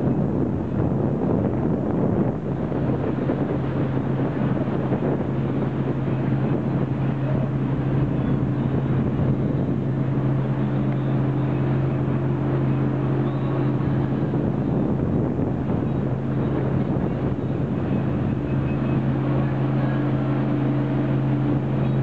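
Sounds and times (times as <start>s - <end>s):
motorboat engine droning: 0.0s - 22.0s
wind and water rushing: 0.0s - 22.0s.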